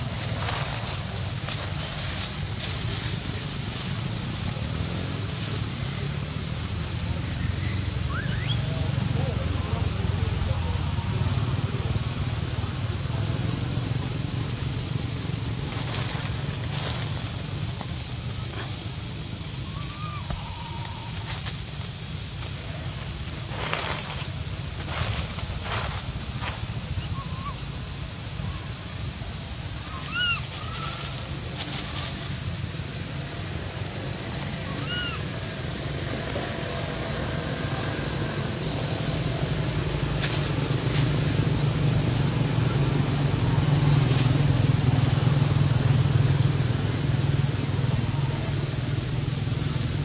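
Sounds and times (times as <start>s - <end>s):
insect chorus droning: 0.0s - 50.0s.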